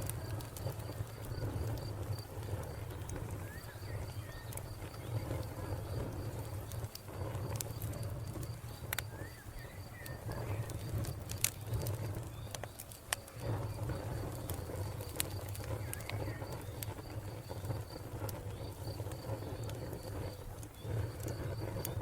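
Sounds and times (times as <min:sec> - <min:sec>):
crickets chirping: 0:00.0 - 0:22.0
wood fire crackling: 0:00.0 - 0:22.0.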